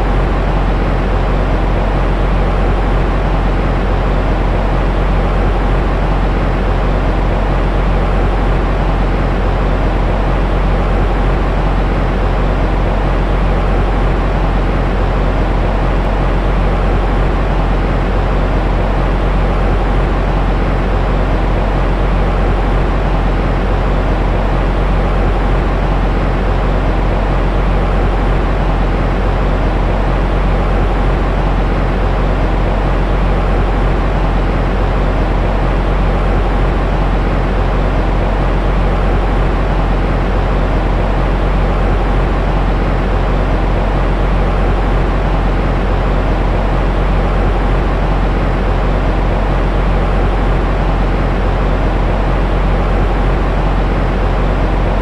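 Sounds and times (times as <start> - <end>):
low rumbling white noise: 0.0 - 55.0.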